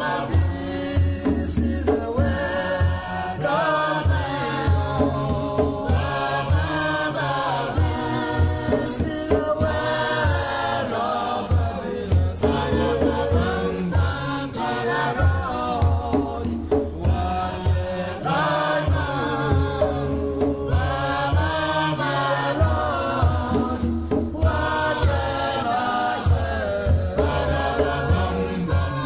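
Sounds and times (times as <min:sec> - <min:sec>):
chant-like singing: 0:00.0 - 0:29.0
low drum beat: 0:00.0 - 0:29.0.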